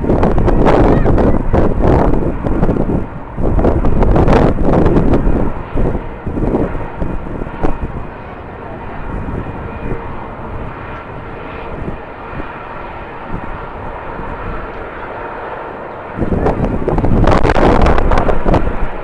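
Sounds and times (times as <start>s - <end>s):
jet engines rumbling with whine: 0.0s - 19.0s
wind buffeting microphone: 0.0s - 19.0s.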